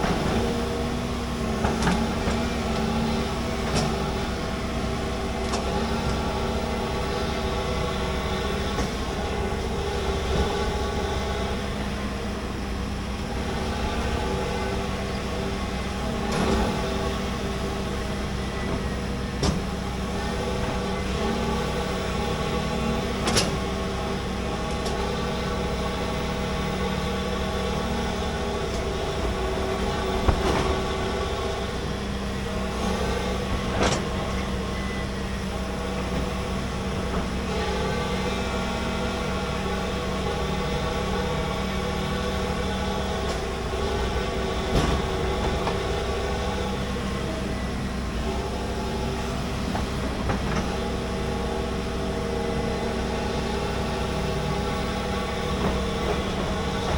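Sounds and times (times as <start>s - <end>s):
excavator diesel engine: 0.0s - 56.9s.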